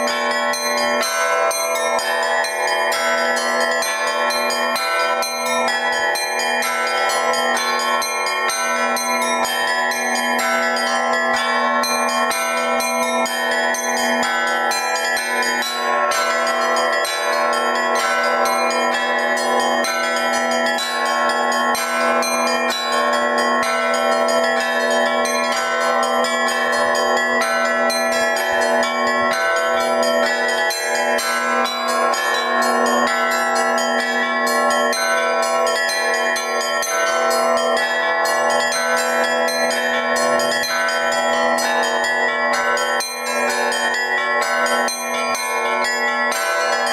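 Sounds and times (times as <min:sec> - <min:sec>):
church bells ringing a peal: 0:00.0 - 0:46.9.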